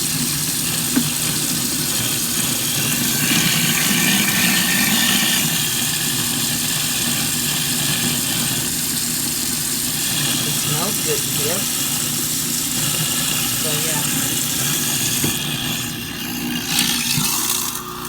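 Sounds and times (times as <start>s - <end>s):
garbage disposal motor humming: 0.0s - 18.0s.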